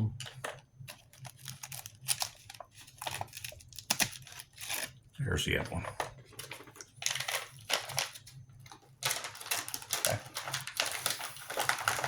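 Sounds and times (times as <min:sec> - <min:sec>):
plastic packaging crinkling: 0:00.2 - 0:05.0, 0:05.9 - 0:12.0.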